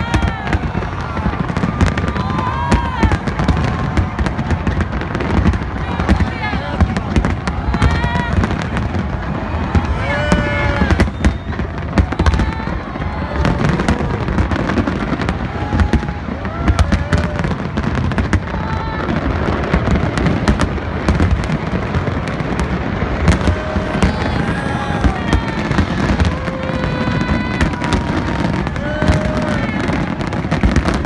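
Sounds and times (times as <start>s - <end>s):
crowd voices: 0.0s - 31.0s
fireworks bangs and crackles: 0.0s - 31.0s.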